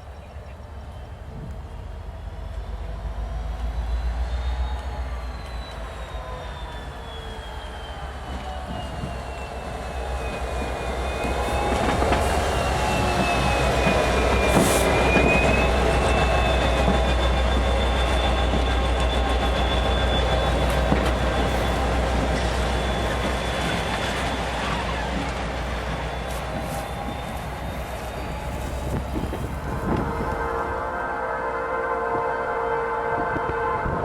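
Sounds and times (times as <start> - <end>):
freight train rolling past: 0.0 - 34.0
train wheels squealing: 0.8 - 30.8.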